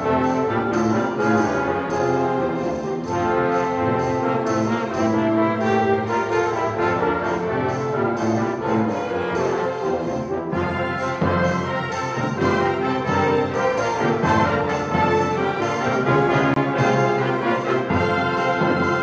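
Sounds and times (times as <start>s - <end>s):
brass playing: 0.0s - 19.0s
symphony orchestra playing: 0.0s - 19.0s.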